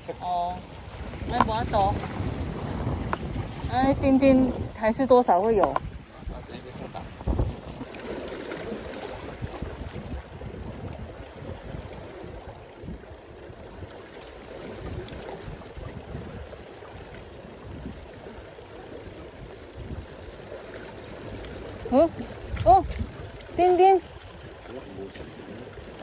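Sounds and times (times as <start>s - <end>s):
surf washing: 0.0s - 26.0s
wind buffeting microphone: 0.0s - 26.0s.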